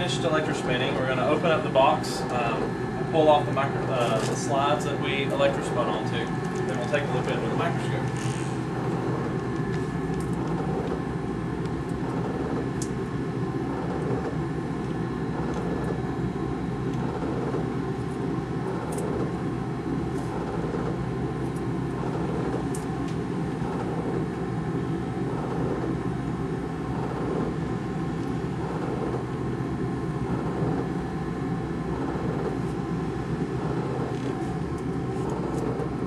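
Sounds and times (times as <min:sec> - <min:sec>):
lab equipment rumble and hum: 0:00.0 - 0:36.0.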